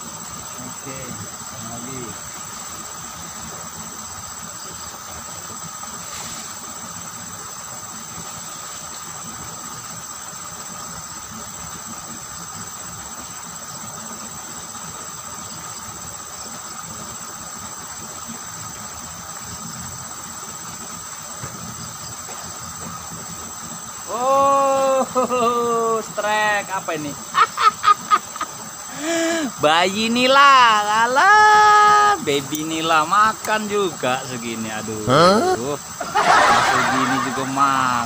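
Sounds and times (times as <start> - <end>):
high insect drone: 0.0 - 38.0
water rushing through ditch: 0.0 - 38.0.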